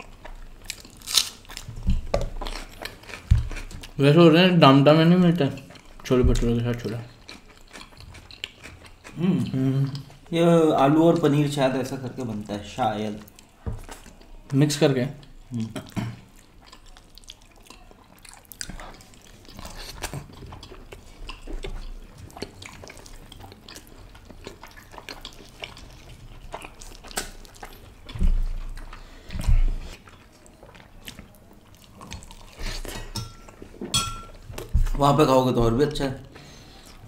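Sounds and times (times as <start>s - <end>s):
people chewing: 0.0s - 4.2s, 5.0s - 37.0s.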